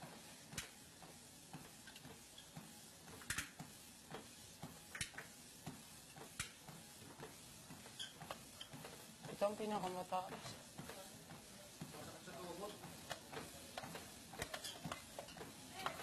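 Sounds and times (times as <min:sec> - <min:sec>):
exercise machines tapping and clicking: 0:00.0 - 0:16.0.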